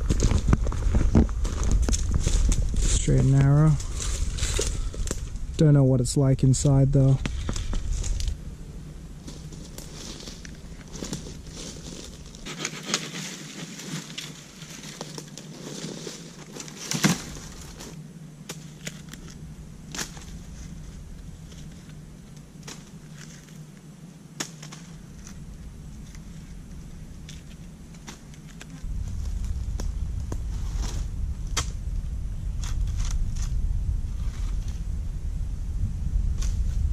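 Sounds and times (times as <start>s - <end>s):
low rumble: 0.0s - 12.5s, 17.2s - 24.0s, 24.8s - 36.9s
low hum: 0.0s - 36.9s.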